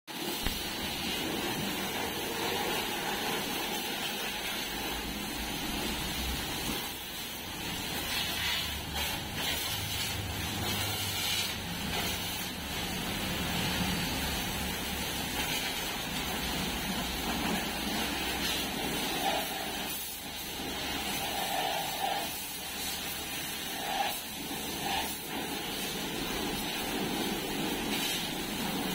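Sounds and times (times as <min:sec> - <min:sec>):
pressure washer spraying water: 0:00.1 - 0:28.9.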